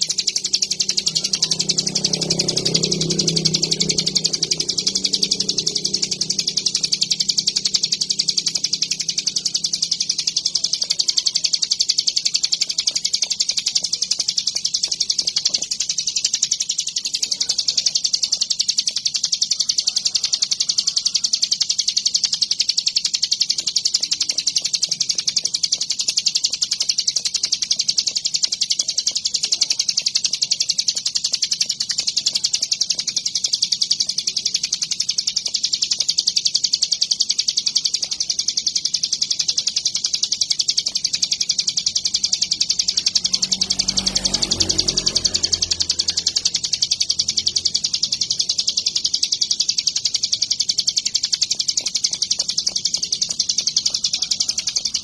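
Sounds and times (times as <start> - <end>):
bird trilling song: 0.0 - 55.0.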